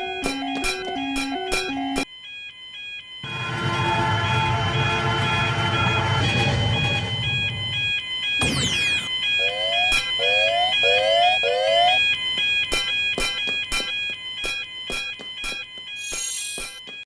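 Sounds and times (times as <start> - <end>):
level crossing bell two-tone ringing: 0.0 - 17.0.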